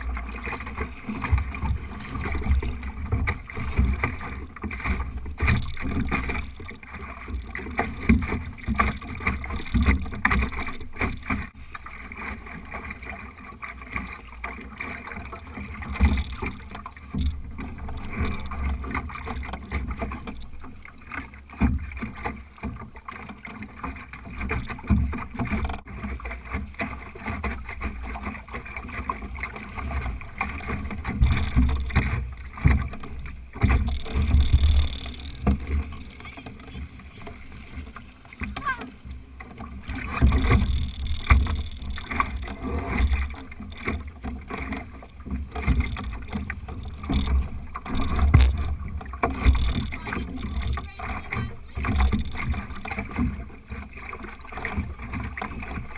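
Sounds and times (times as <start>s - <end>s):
water slapping against boat hull: 0.0s - 55.9s.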